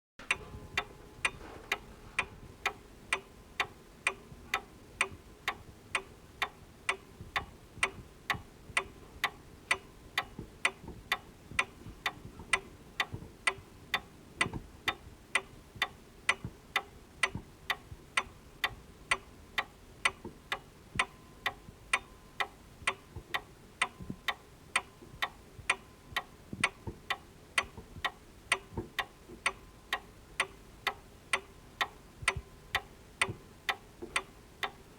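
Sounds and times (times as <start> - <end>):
clock ticking: 0.2 - 34.9.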